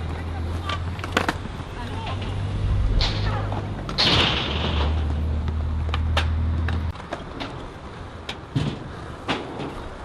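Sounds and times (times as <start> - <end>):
skateboard wheels rolling on concrete: 0.0 - 10.0.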